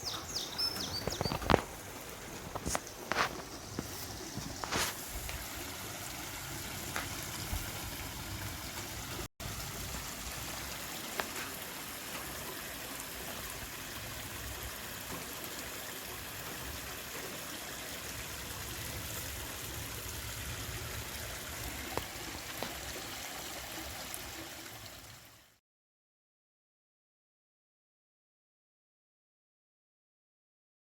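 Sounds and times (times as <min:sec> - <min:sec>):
stream water rushing: 0:00.0 - 0:25.4.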